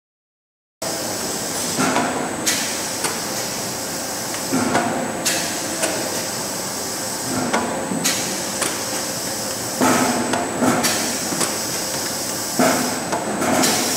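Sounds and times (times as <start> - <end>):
machine hum with high whine: 0.8 - 13.9.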